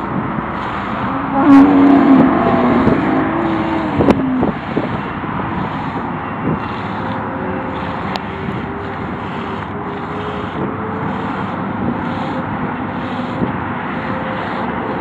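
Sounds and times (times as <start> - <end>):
steady rushing background: 0.0 - 15.0.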